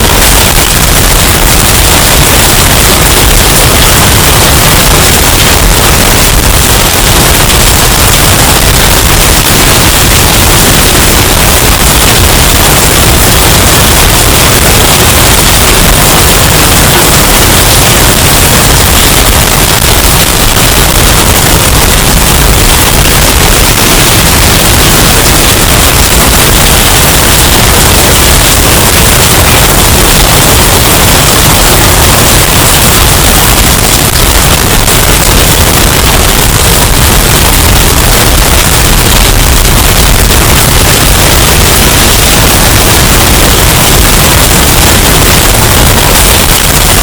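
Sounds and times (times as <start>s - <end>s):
distorted hurricane storm noise: 0.0s - 47.0s.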